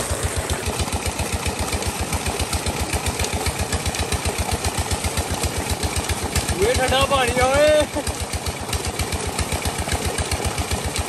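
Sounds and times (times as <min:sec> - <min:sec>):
water gushing from pipe: 0:00.0 - 0:11.0.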